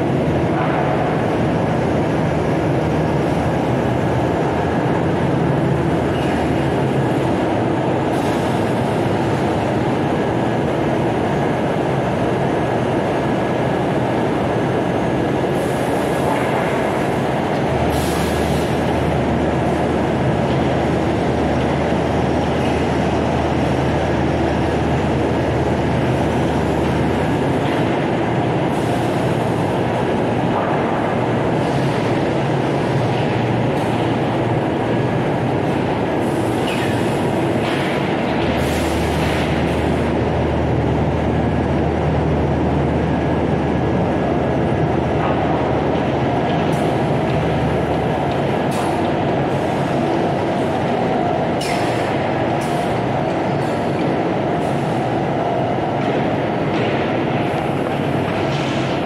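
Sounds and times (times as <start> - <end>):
machinery rumble: 0.0 - 59.0.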